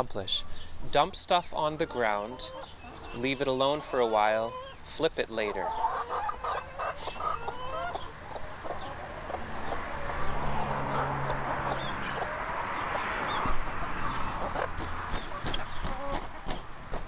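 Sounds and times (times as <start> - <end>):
hens clucking: 0.1 - 17.0.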